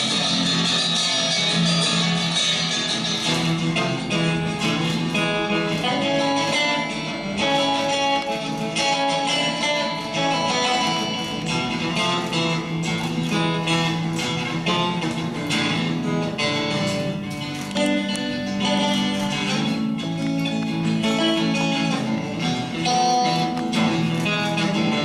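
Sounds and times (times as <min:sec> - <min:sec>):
guitar playing chords: 0:00.0 - 0:25.0.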